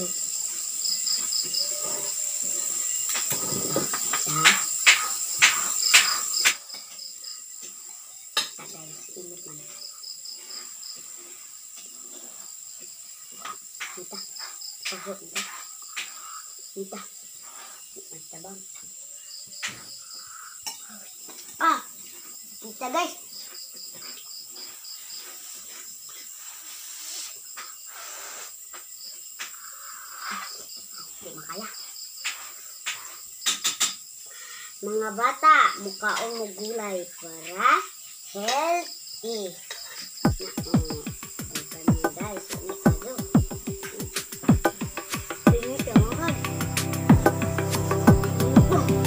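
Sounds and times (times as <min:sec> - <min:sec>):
crickets chirping: 0:00.0 - 0:49.0
faint steady hiss: 0:00.0 - 0:49.0.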